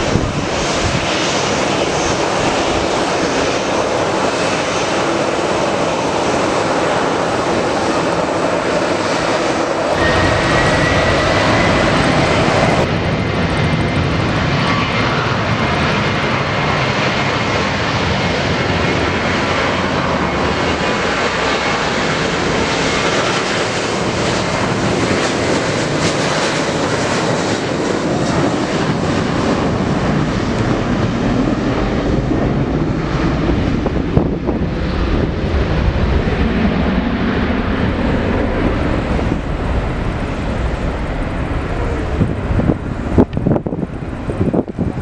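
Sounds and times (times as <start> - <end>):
jet engines running: 0.0 - 45.0.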